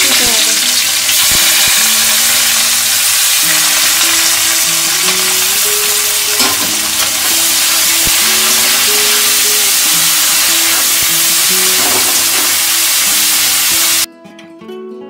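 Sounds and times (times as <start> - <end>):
onions sizzling in oil: 0.0 - 14.1
quiet background melody: 0.3 - 15.0.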